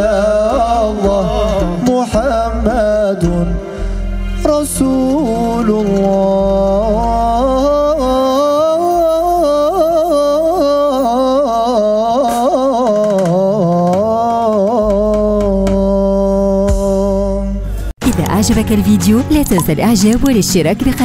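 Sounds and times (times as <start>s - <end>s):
low instrumental backing: 0.0s - 10.1s, 12.9s - 21.0s.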